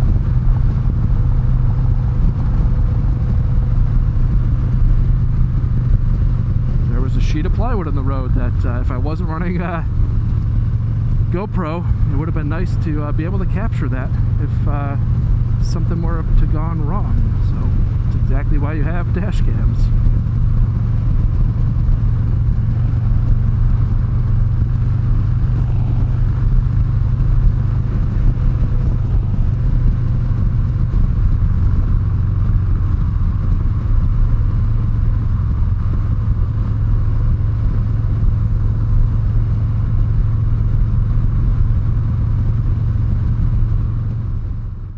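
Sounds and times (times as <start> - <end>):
motorcycle engine cruising: 0.0 - 44.9
wind and road noise: 0.0 - 44.9.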